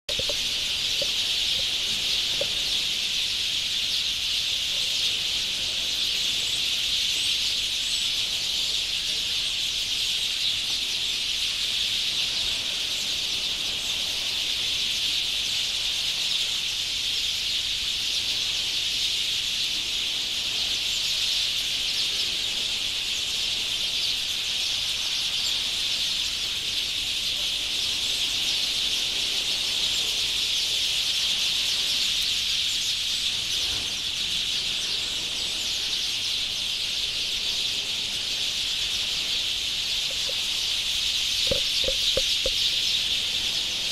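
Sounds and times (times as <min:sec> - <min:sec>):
flock of small birds chattering: 0:00.1 - 0:43.9.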